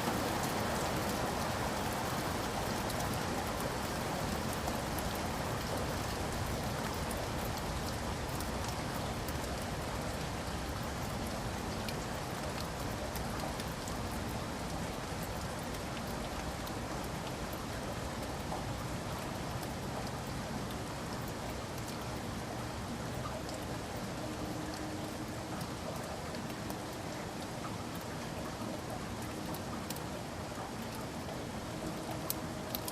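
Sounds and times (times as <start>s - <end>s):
steady rain with drops tapping: 0.0s - 32.9s.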